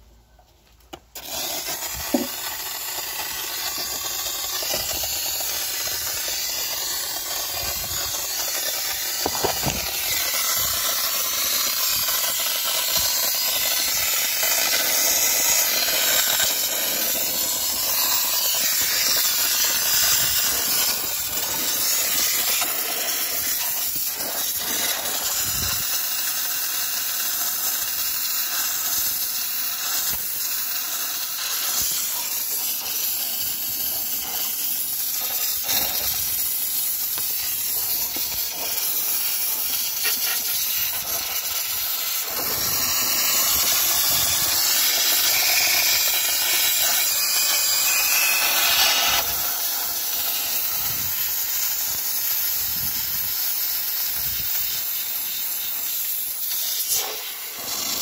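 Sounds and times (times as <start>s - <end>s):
steam cleaner hissing: 0.9s - 58.0s.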